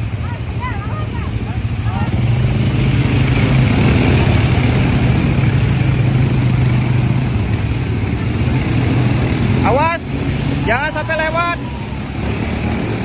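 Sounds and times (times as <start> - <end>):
quad bike engines running: 0.0 - 13.0.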